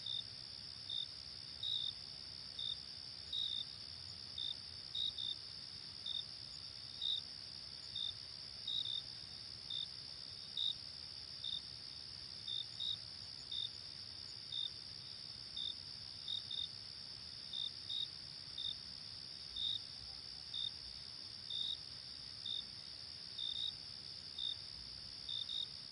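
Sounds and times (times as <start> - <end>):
crickets chirping: 0.0 - 25.9.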